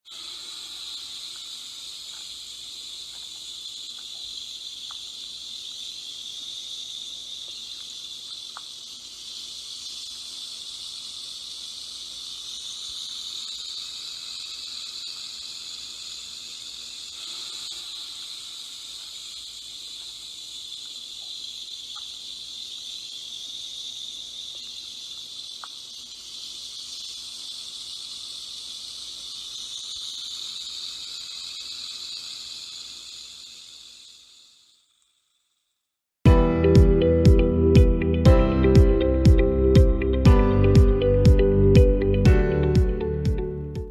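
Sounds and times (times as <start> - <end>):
rattlesnake rattling: 0.0 - 35.8.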